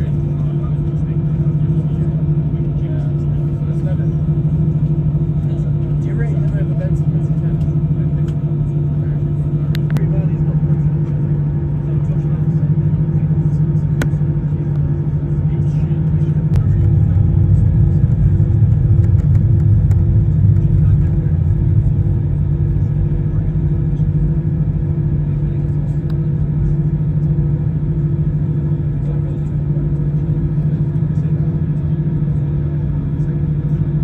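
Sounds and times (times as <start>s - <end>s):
low engine hum: 0.0s - 34.0s.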